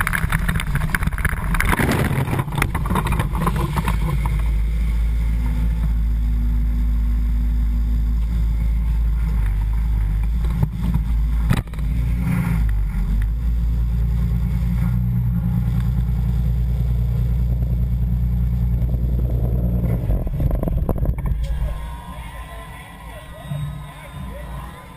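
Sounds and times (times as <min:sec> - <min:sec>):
bus engine running: 0:00.0 - 0:24.9.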